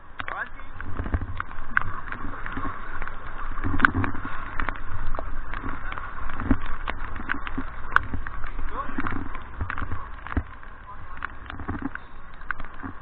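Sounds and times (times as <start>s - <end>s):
paddle blades splashing: 0.0s - 13.0s
water sloshing against raft: 0.0s - 13.0s
irregular clicks and knocks: 0.2s - 13.0s.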